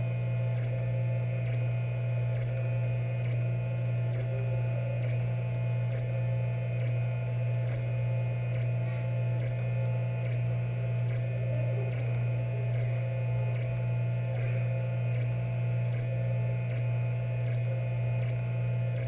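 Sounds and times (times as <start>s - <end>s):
faint printer ticks: 0.0s - 19.0s
three d printer humming: 0.0s - 19.0s.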